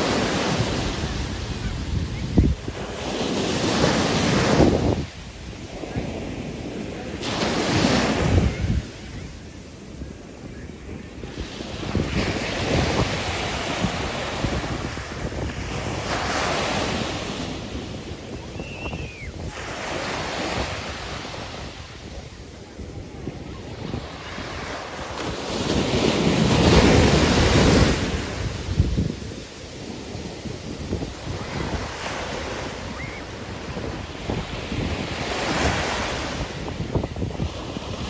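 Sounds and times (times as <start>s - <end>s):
sea waves washing: 0.0s - 38.0s
wind buffeting microphone: 0.0s - 38.0s.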